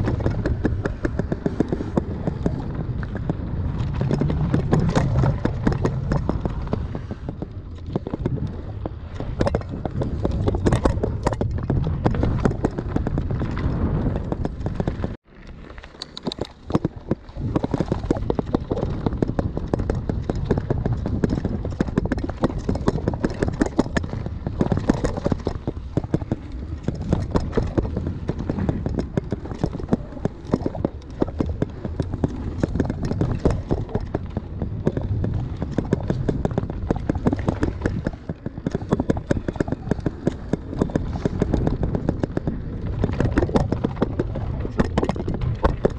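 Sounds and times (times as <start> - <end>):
wind on microphone: 0.0 - 45.9.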